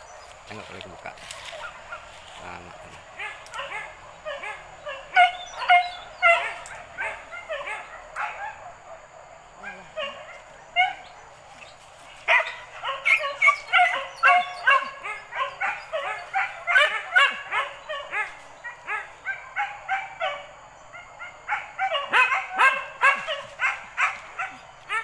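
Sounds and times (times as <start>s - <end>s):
dogs yelping and barking: 1.2s - 25.0s.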